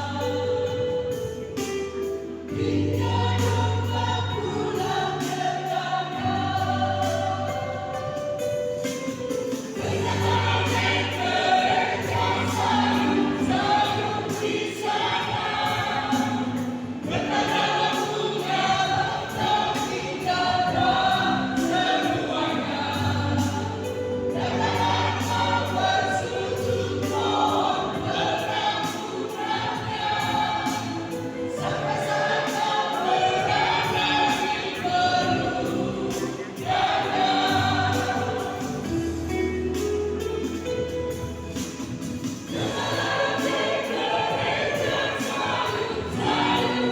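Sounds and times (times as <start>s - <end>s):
choir singing a hymn: 0.0s - 46.9s.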